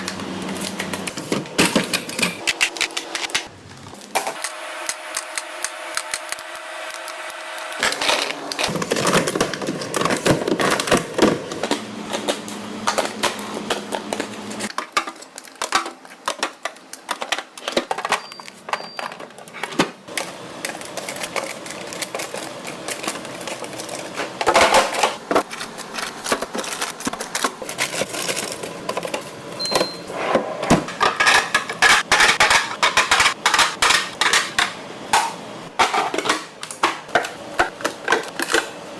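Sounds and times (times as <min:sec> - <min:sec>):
kitchen items clattering: 0:00.0 - 0:04.5, 0:07.8 - 0:38.9.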